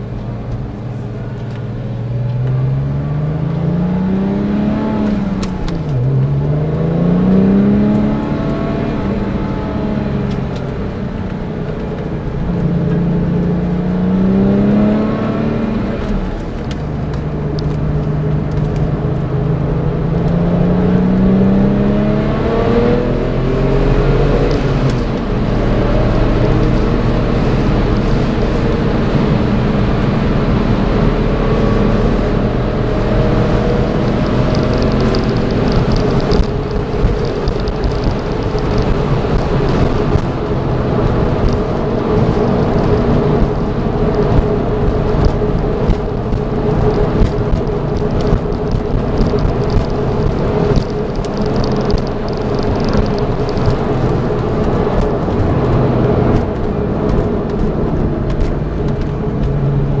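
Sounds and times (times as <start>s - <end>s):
car engine revving: 0.0s - 60.0s
wind and road noise: 0.0s - 60.0s.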